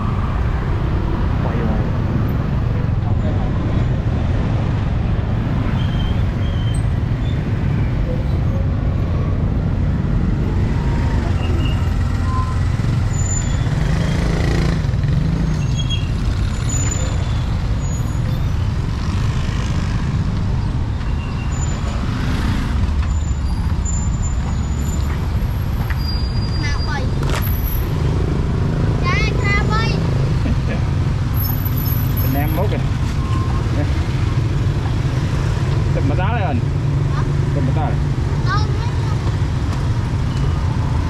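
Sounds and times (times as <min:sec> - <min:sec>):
street traffic rumble: 0:00.0 - 0:41.0
vehicles passing by: 0:00.0 - 0:41.0.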